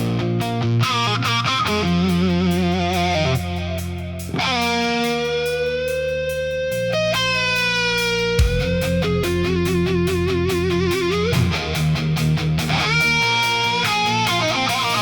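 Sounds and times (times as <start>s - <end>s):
bass and band backing: 0.0s - 15.0s
electric blues guitar solo: 0.0s - 15.0s.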